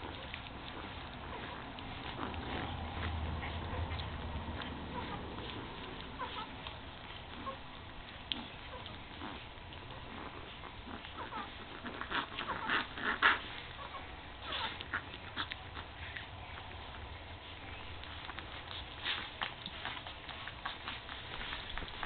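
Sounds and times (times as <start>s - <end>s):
puppies squeaking and whimpering: 0.0s - 22.0s.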